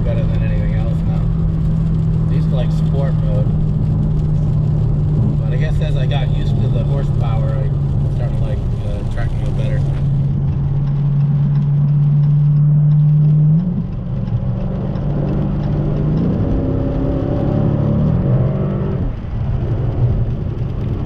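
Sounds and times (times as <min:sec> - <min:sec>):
car engine while driving: 0:00.0 - 0:21.0
road noise: 0:00.0 - 0:21.0.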